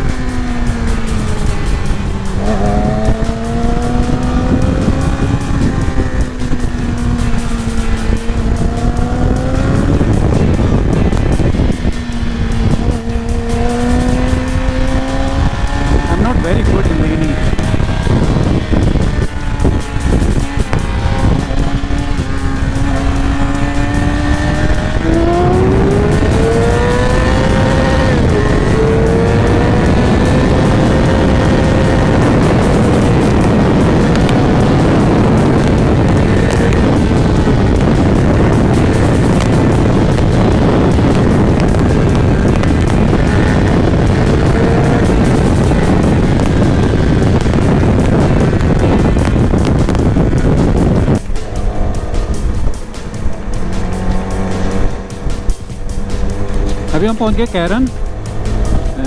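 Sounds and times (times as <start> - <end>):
motorcycle engine cruising: 0.0 - 59.0
wind on microphone: 0.0 - 59.0.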